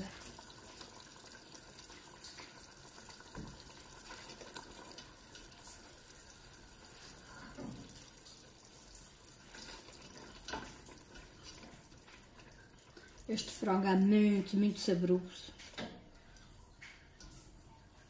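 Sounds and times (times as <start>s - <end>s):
sauce bubbling: 0.0s - 14.9s.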